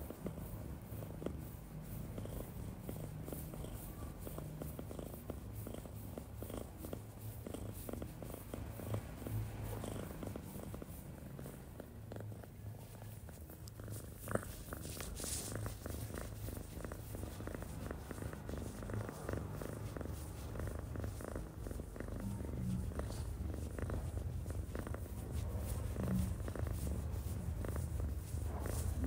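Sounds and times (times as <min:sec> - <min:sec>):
cat purring: 0:00.0 - 0:29.0
fingers rustling in fur: 0:00.0 - 0:29.0.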